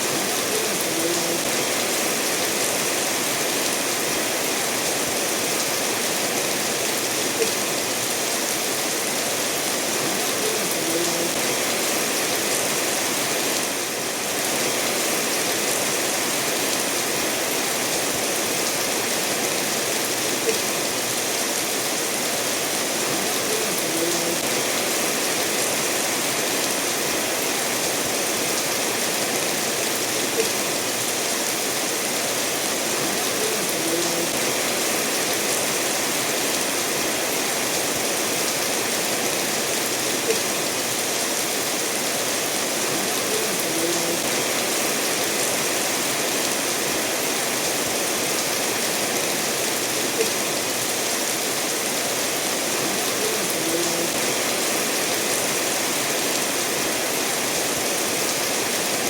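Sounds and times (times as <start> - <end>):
steady rain falling: 0.0 - 59.0
stream running over stones: 0.0 - 59.0.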